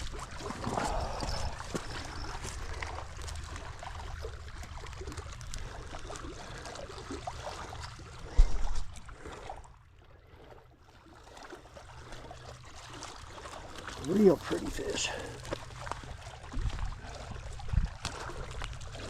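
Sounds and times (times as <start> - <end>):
small splashes: 0.0 - 19.0
water lapping at lake edge: 0.0 - 19.0.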